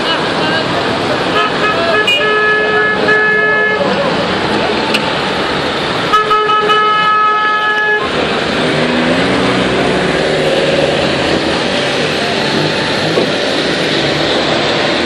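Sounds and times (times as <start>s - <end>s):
cars passing on wet road: 0.0s - 15.0s.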